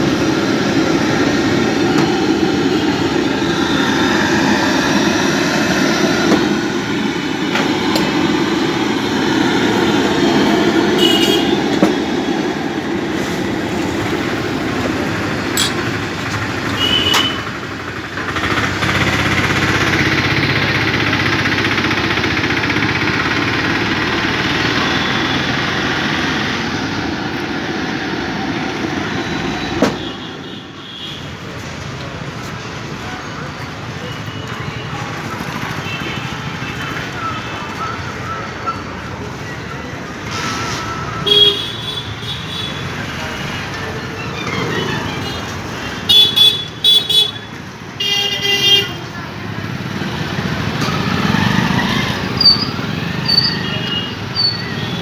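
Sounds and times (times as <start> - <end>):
traffic engines rumbling: 0.0 - 55.0.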